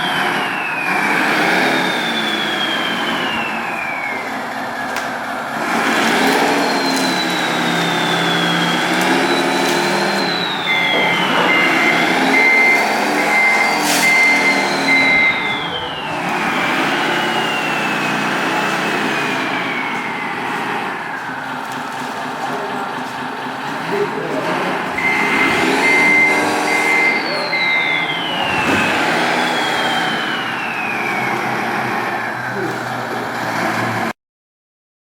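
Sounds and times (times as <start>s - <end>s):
pulsing beeper: 0.0s - 4.8s, 5.8s - 32.9s
electric motors whining: 0.0s - 34.1s
simulated diesel engine running: 0.0s - 34.1s.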